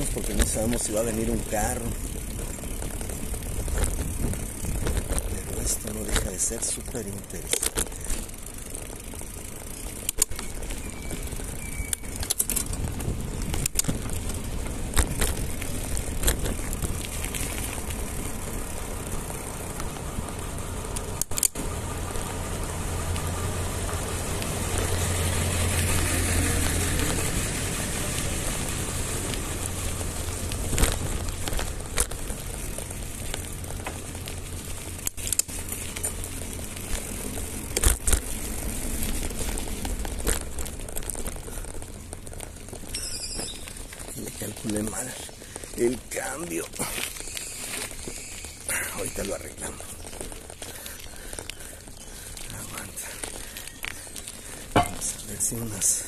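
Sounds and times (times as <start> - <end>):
bike clicks and rattles: 0.0 - 56.0.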